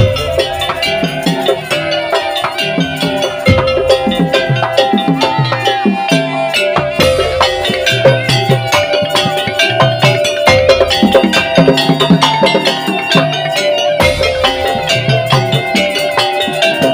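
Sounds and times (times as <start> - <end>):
fast dense percussion: 0.0 - 16.9
held melody: 0.0 - 16.9.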